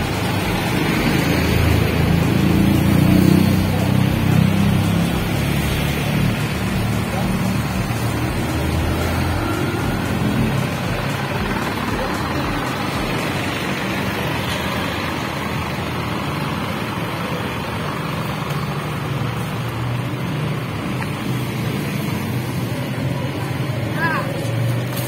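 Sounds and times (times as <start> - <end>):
road and wind noise: 0.0 - 25.0
truck engine running: 0.0 - 25.0.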